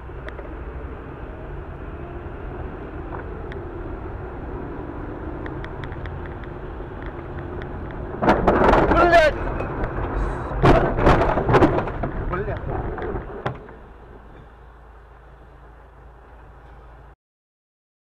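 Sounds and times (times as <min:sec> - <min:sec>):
car driving on wet road: 0:00.0 - 0:15.8.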